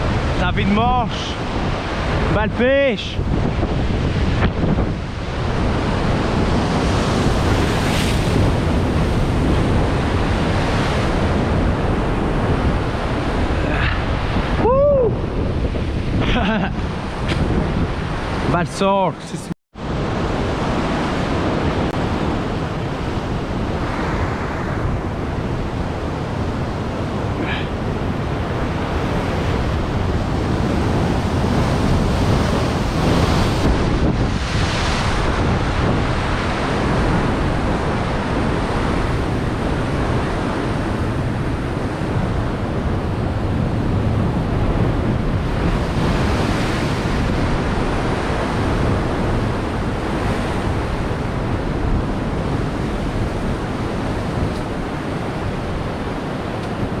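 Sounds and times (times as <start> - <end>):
surf washing on shore: 0.0 - 57.0
wind rumbling on microphone: 0.0 - 57.0.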